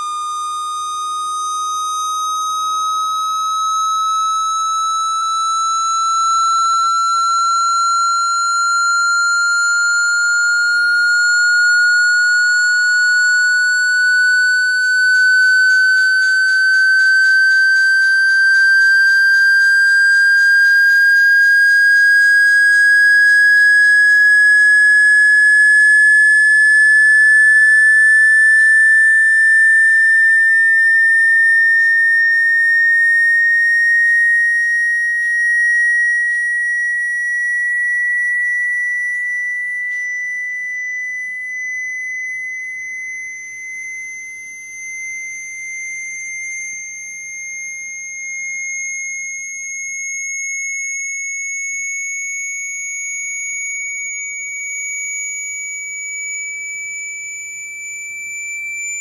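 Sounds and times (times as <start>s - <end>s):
high whistling tone: 0.0s - 59.0s.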